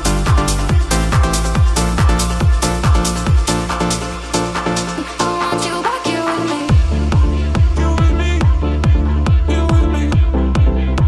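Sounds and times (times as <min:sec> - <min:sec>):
deep kick drum thumping: 0:00.0 - 0:04.8, 0:06.7 - 0:11.0
electronic dance music: 0:00.0 - 0:11.0.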